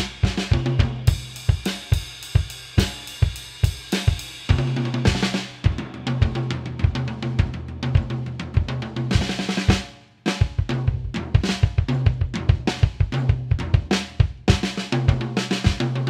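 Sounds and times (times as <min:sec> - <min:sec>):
drum kit groove: 0:00.0 - 0:16.0.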